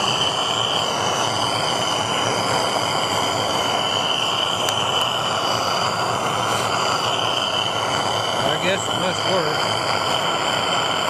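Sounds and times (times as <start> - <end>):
gas torch hissing and whistling: 0.0 - 11.0.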